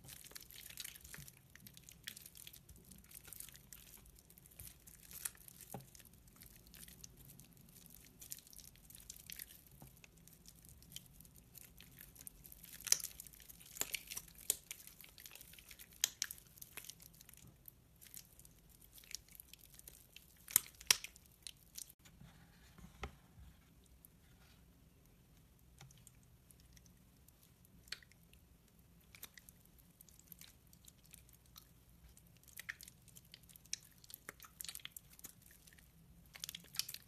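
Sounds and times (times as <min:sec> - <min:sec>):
hands crumbling soaked soap: 0:00.0 - 0:22.0, 0:25.4 - 0:37.0.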